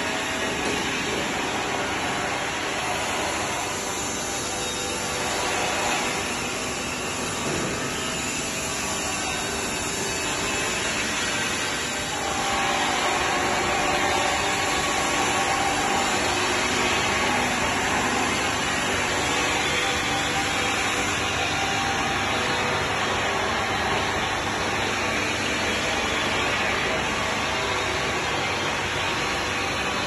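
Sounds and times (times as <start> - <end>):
machine hiss and hum: 0.0 - 30.0.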